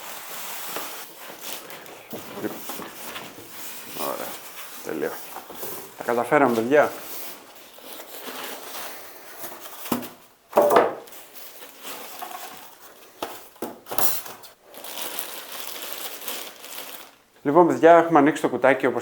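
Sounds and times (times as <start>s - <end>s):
cardboard and plastic crinkling: 0.0s - 10.2s, 11.0s - 17.2s.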